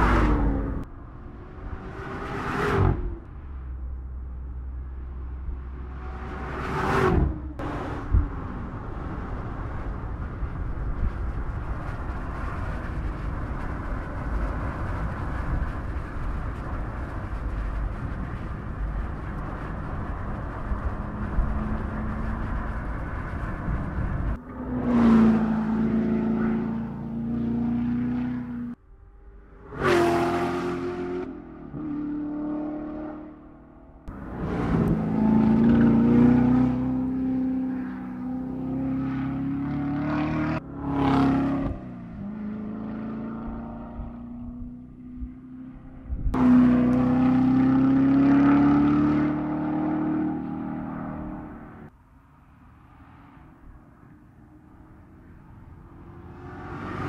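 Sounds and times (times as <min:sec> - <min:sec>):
car driving at speed: 0:00.0 - 0:57.0
wind and road noise: 0:00.0 - 0:57.0.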